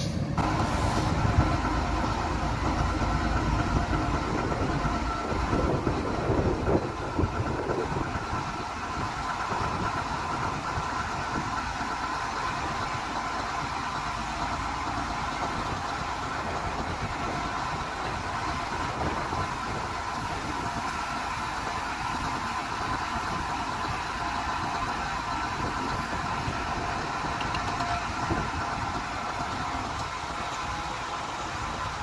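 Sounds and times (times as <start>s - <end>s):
heavy diesel engines idling: 0.0s - 32.0s.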